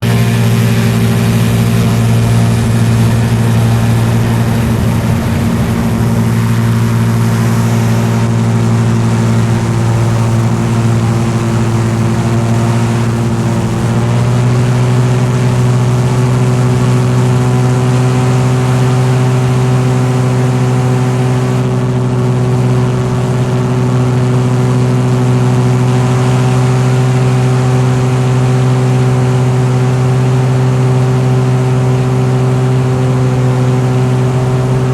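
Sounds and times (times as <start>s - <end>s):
vehicle engine droning: 0.0s - 34.9s.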